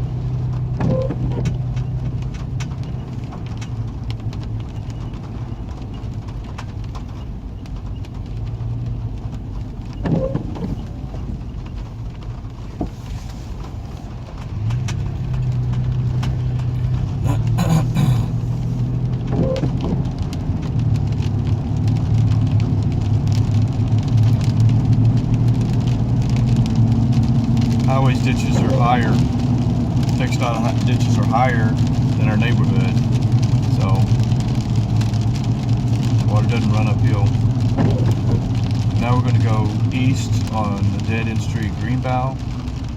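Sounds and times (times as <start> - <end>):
car engine and road hum: 0.0 - 42.9.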